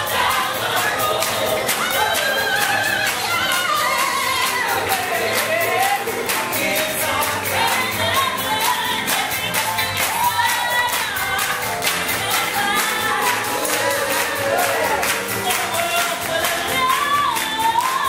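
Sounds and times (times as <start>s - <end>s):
band playing: 0.0s - 18.0s
cast singing together: 0.0s - 18.0s
quick percussion beat: 0.0s - 18.0s.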